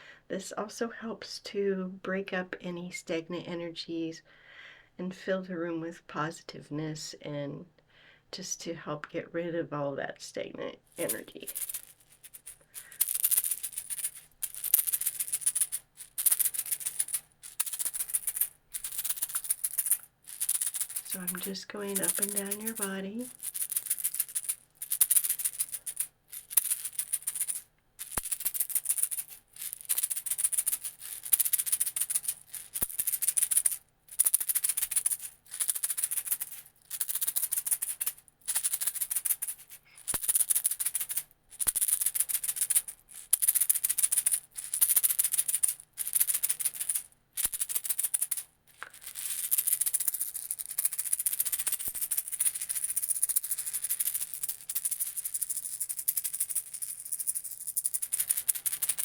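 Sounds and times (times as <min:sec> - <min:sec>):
hand rattle shaking: 0:10.9 - 0:59.0.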